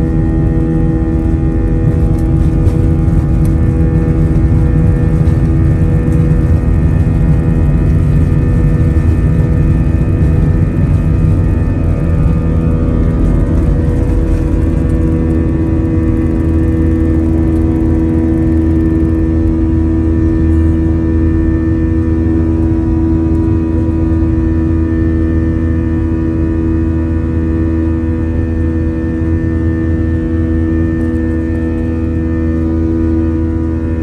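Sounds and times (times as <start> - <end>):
jet engines droning: 0.0 - 34.0.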